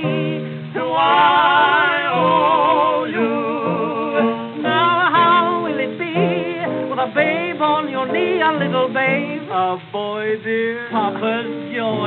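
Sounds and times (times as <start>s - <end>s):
old gramophone ragtime song: 0.0s - 12.0s
person singing with vibrato: 0.0s - 12.0s.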